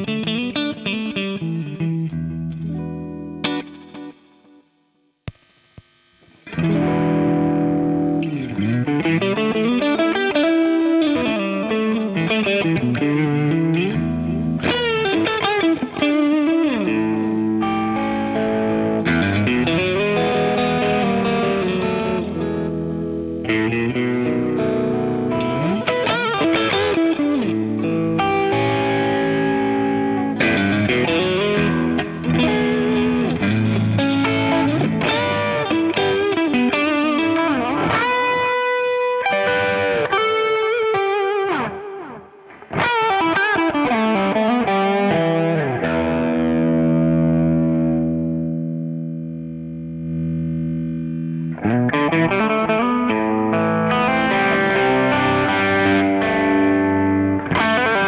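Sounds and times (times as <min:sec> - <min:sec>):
overdriven electric guitar: 0:00.0 - 0:58.0.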